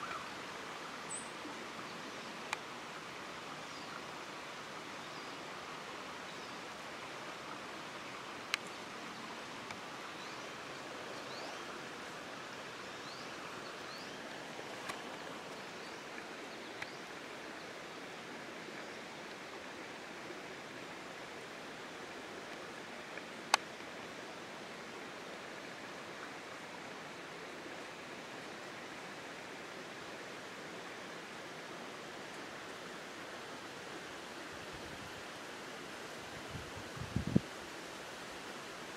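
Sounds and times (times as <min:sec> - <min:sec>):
steady rushing hiss: 0:00.0 - 0:38.9.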